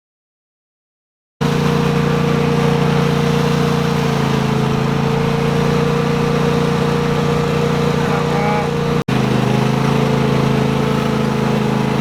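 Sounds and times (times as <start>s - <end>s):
steady mechanical drone: 1.4s - 12.0s.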